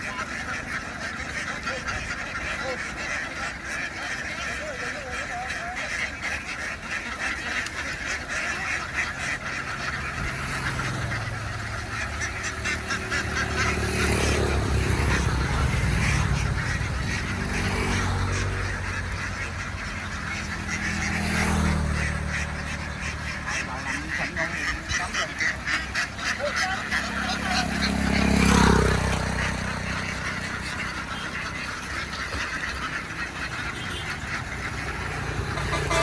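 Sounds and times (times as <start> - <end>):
ducks quacking: 0.0 - 36.0.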